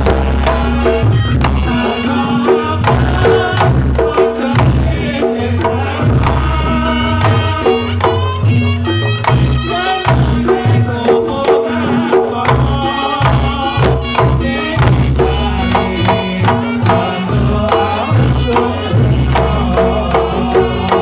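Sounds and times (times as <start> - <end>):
hand drum played fast: 0.0 - 21.0.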